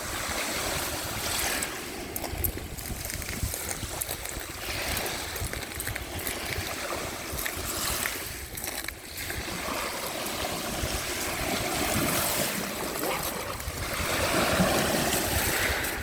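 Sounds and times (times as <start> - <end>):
small waves lapping at shore: 0.0 - 16.0
wind rumble on microphone: 0.0 - 16.0.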